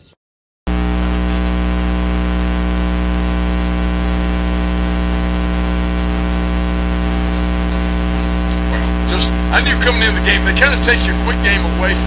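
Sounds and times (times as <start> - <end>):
electrical mains hum: 0.7 - 12.0.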